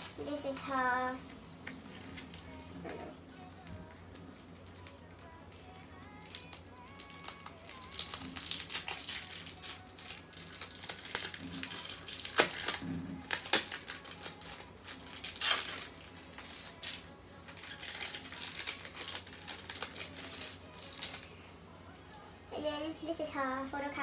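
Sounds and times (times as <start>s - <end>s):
paper and plastic crinkling: 0.0s - 3.0s, 4.2s - 21.4s.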